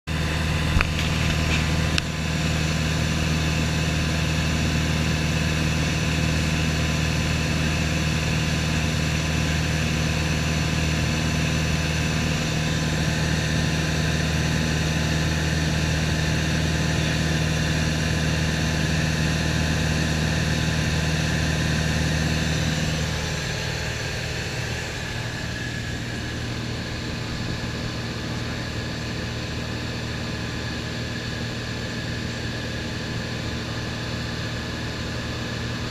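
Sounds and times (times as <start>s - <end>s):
propeller plane engine droning: 0.1s - 35.9s.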